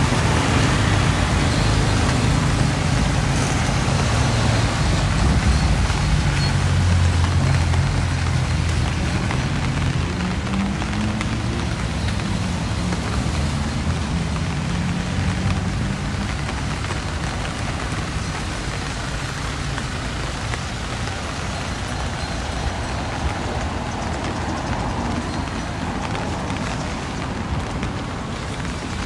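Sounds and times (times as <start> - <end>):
rain hissing: 0.0 - 29.0
street traffic: 0.0 - 29.0
vehicle engine humming: 0.0 - 29.0.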